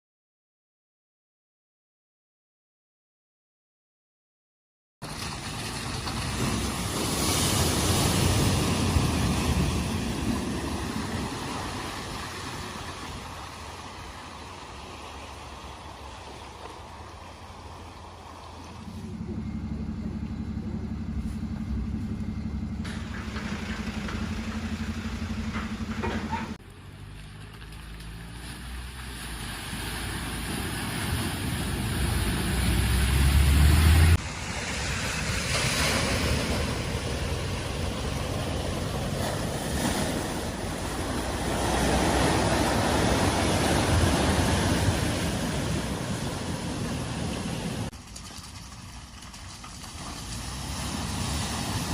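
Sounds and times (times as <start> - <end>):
water rushing and splashing: 5.0 - 21.0, 22.8 - 51.9
vehicle engine: 5.0 - 51.9.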